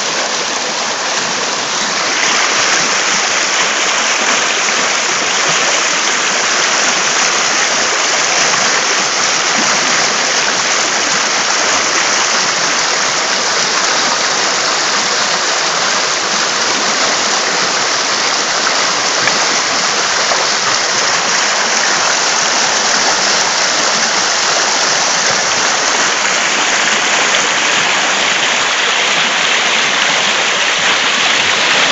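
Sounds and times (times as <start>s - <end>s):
river rushing over stones: 0.0s - 31.9s.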